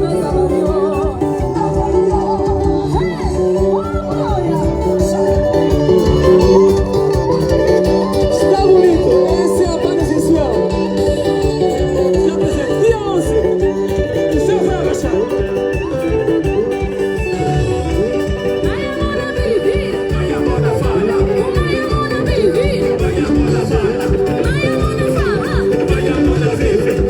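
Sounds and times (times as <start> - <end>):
plucked guitar melody: 0.0 - 27.0
steady drum beat: 0.0 - 27.0
voices singing: 0.0 - 27.0.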